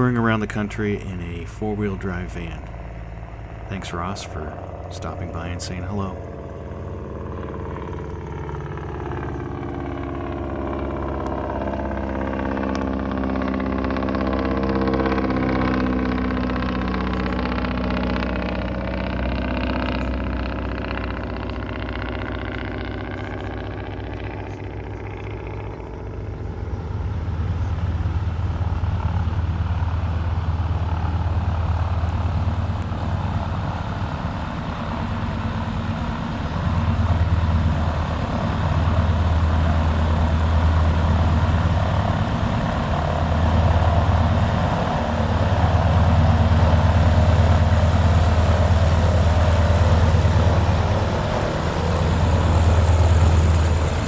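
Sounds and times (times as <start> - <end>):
engine droning at low speed: 0.0 - 54.0
high whine: 0.0 - 54.0.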